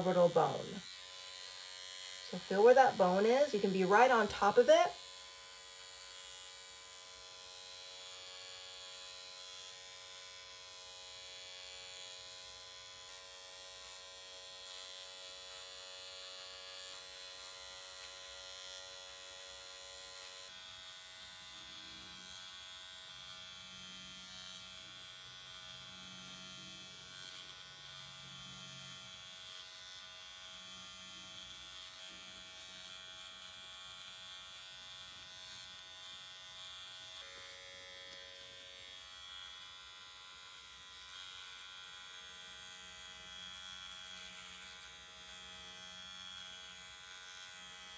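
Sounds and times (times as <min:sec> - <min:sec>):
electric pen motor buzz: 0:00.0 - 0:47.9.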